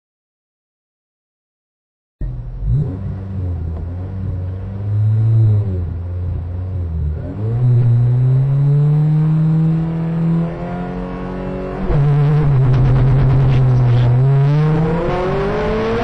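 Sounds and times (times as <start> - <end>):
rally car engine revving: 2.2 - 16.0.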